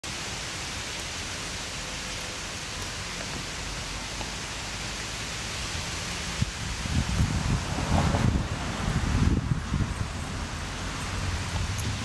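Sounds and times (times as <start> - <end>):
steady background hiss: 0.1 - 12.0.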